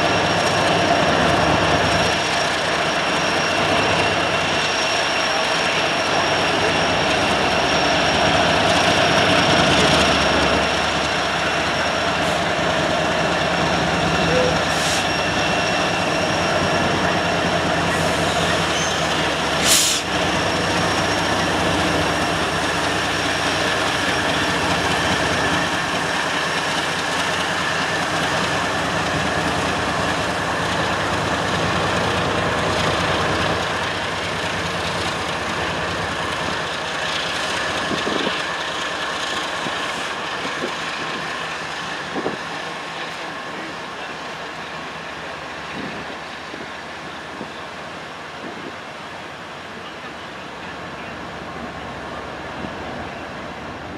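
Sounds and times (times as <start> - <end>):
diesel locomotive engines running: 0.0 - 53.9
wheel and rail noise: 0.0 - 53.9.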